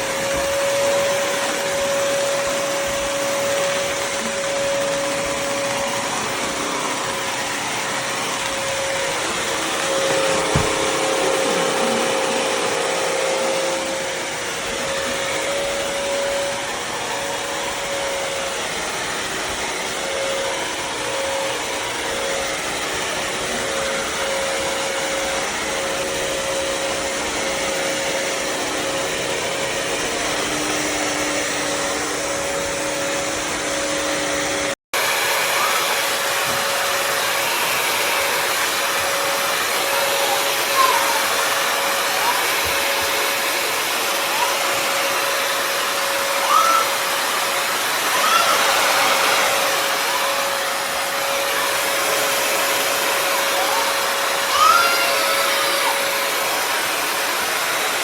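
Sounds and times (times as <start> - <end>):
floor cleaner motor whine: 0.0 - 58.0.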